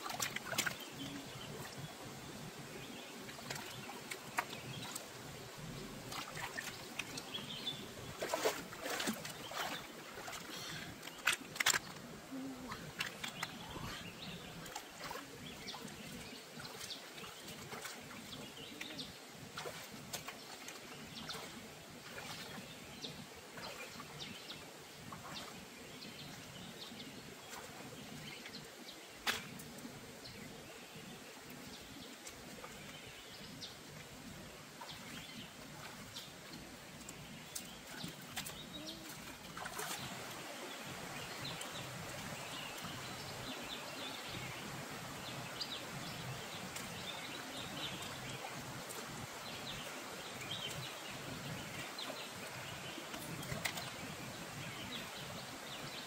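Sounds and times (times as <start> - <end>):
stream water running and splashing: 0.0 - 56.0.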